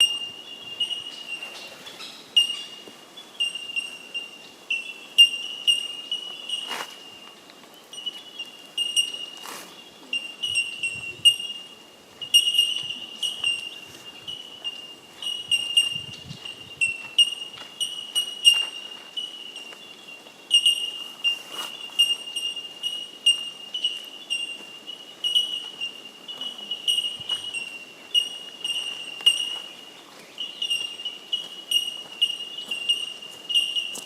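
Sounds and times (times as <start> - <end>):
bell-like bird calls: 0.0 - 7.0, 7.9 - 19.8, 20.5 - 29.7, 30.4 - 34.0.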